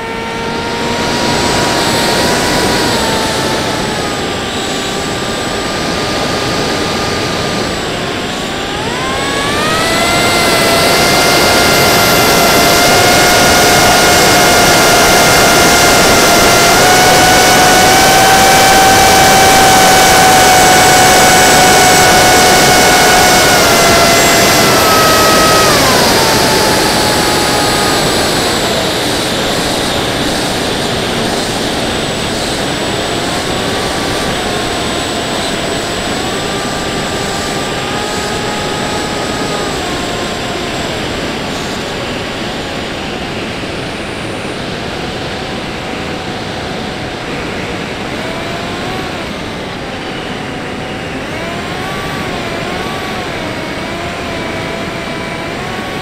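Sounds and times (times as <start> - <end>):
propeller motor whine: 0.0 - 56.0.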